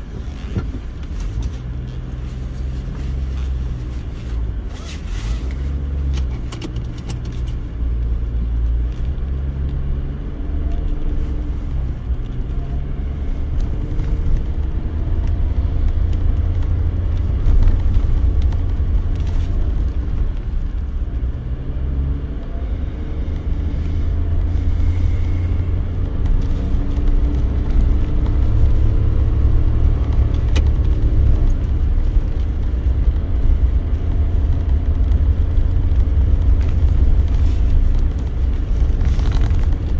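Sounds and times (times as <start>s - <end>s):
car engine: 0.0s - 39.9s
road rumble: 0.0s - 39.9s.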